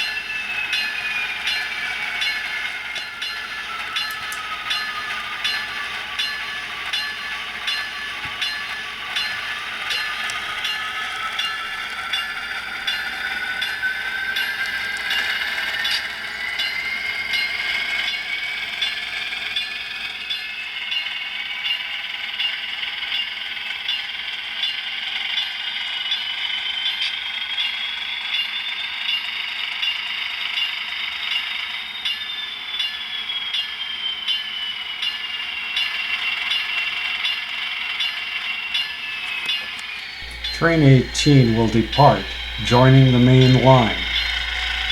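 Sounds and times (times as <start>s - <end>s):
model train motor whining: 0.0s - 33.0s, 35.8s - 44.9s.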